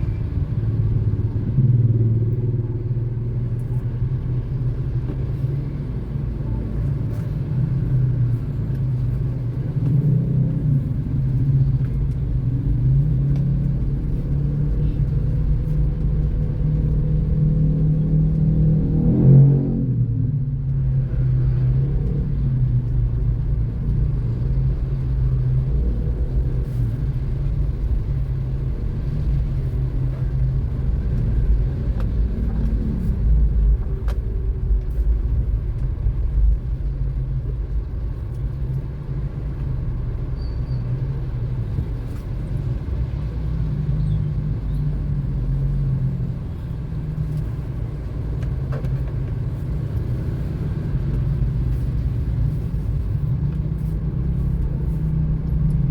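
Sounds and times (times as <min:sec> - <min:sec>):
car engine and road noise: 0:00.0 - 0:55.9.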